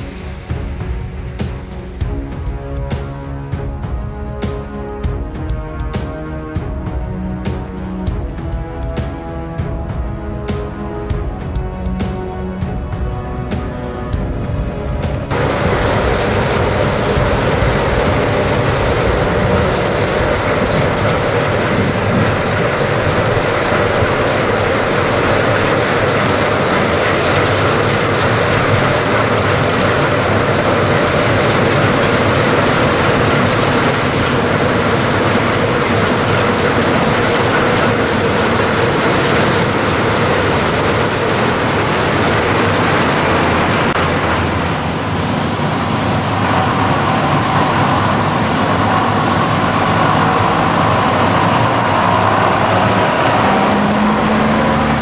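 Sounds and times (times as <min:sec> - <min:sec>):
engines running: 0:00.0 - 0:55.0.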